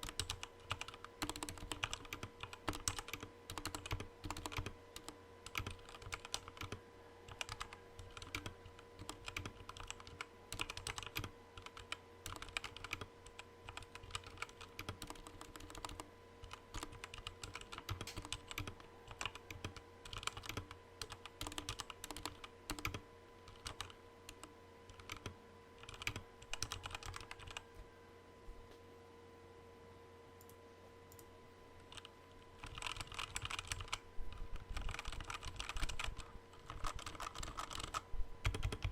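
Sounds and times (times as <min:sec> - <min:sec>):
mechanical keyboard typing: 0:00.0 - 0:27.6, 0:31.8 - 0:38.9
faint steady hum: 0:00.0 - 0:38.9.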